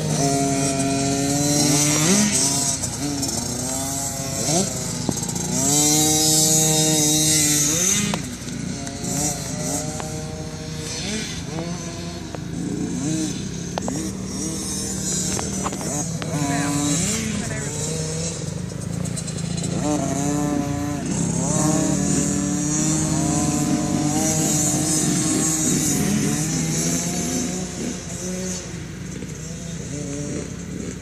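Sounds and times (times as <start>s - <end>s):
pit bike engines revving: 0.0s - 31.0s.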